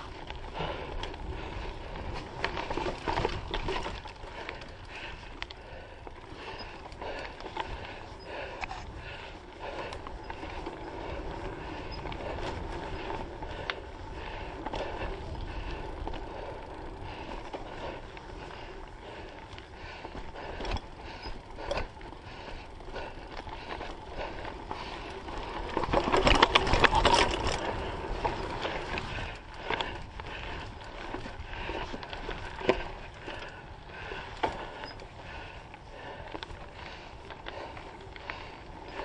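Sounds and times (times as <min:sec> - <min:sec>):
bike chain and frame rattling: 0:00.0 - 0:39.0.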